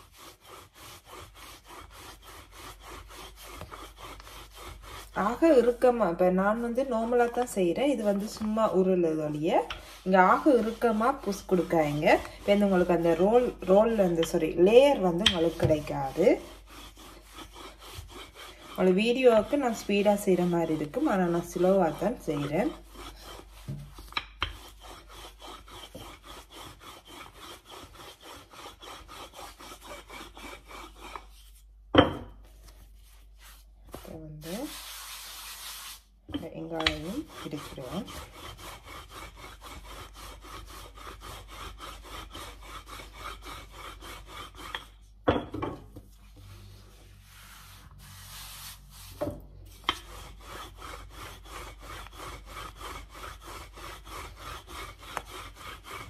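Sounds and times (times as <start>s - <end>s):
rolling pin rubbing over dough: 0.0s - 56.0s.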